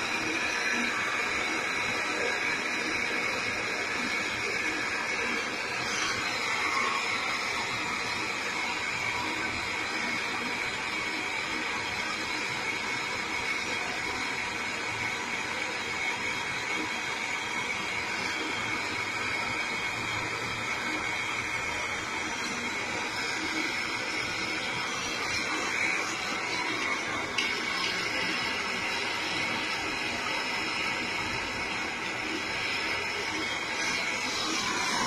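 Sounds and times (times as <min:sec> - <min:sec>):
torch flame hissing: 0:00.0 - 0:35.0.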